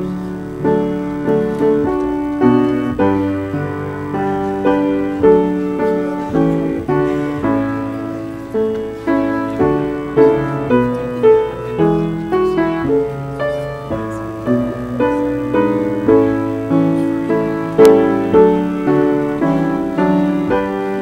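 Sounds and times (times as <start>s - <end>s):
slow piano piece: 0.0s - 21.0s.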